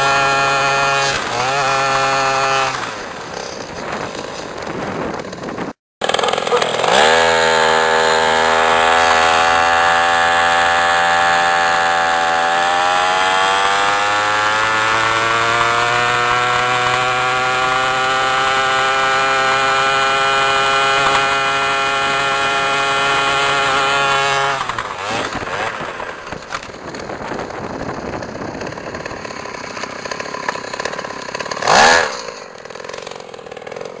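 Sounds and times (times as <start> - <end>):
mini bike engine at full throttle: 0.0 - 34.0.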